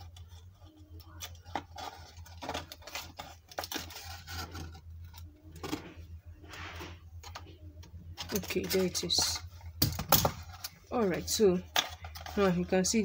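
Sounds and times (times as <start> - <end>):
paper scraping and handling: 0.0 - 7.4, 8.1 - 9.8, 10.4 - 13.0.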